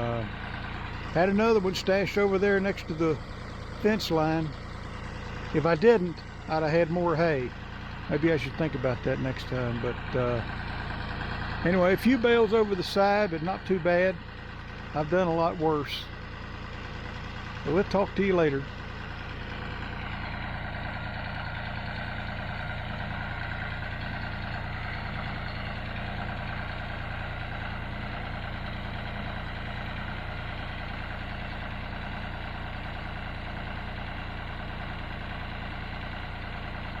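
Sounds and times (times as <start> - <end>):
tractor diesel engine idling: 0.0 - 37.0.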